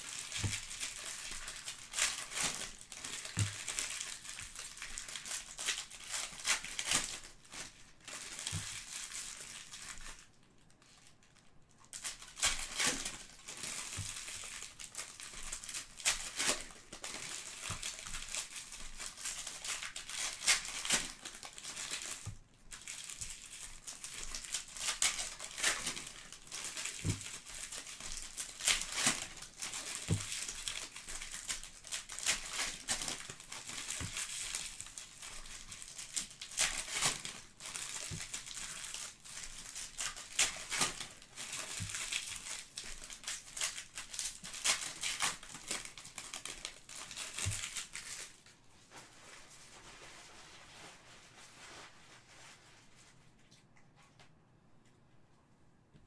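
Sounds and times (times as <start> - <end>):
foil wrappers crinkling and tearing: 0.0 - 53.1.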